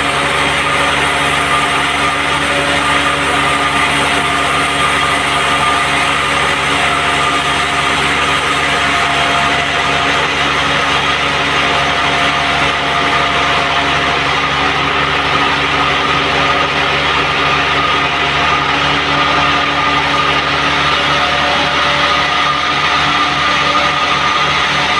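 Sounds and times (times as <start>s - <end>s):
band sawmill running: 0.0s - 24.9s.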